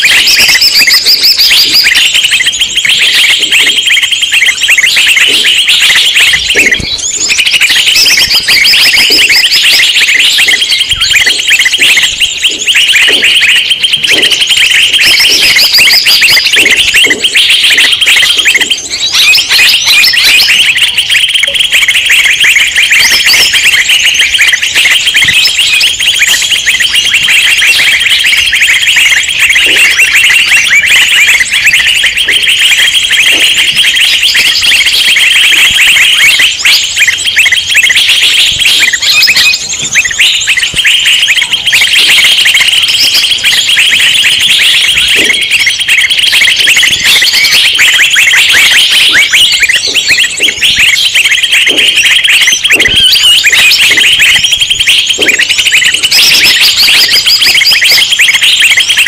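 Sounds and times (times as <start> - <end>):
many songbirds chattering: 0.0 - 59.0.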